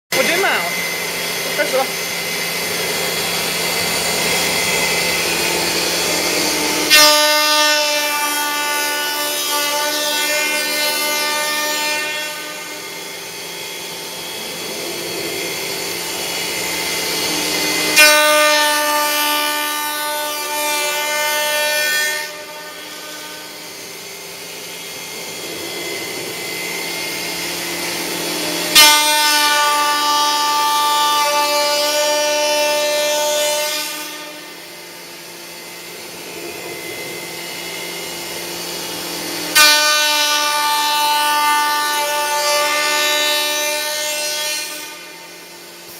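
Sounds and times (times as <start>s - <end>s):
cutter ringing whine: 0.1s - 45.9s
milling machine whir: 0.1s - 45.9s.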